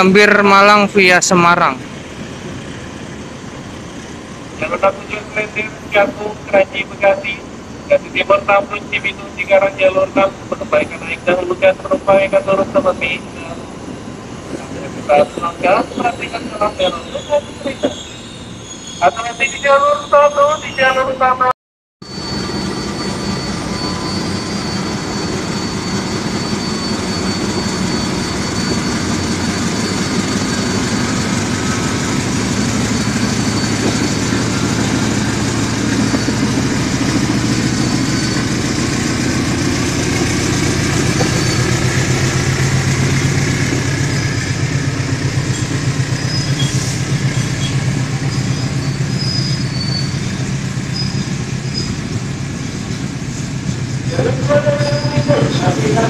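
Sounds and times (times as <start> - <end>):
locomotive engine hum: 0.0 - 21.4, 22.1 - 56.0
high wheel squeals: 1.8 - 21.2, 22.0 - 56.0.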